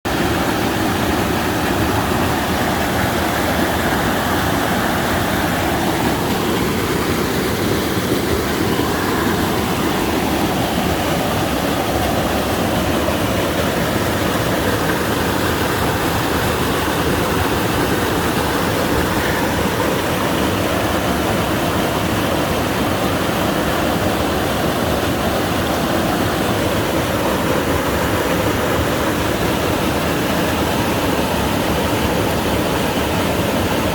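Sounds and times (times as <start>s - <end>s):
stream rushing: 0.0s - 33.9s.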